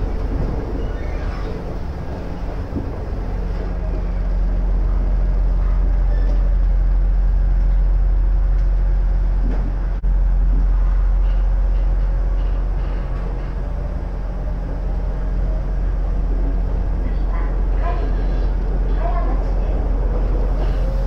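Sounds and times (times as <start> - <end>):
electric train hum: 0.0 - 21.0.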